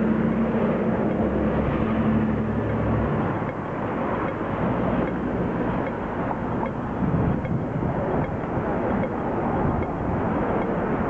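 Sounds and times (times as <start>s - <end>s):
pedestrian signal ticking: 0.0s - 1.5s, 2.2s - 11.0s
bus engine humming: 0.0s - 11.0s
street traffic noise: 0.0s - 11.0s.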